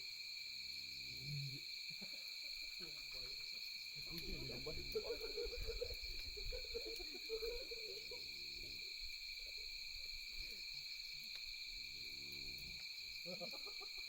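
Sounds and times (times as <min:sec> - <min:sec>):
night insects trilling: 0:00.0 - 0:14.0
campfire crackling: 0:02.0 - 0:14.0.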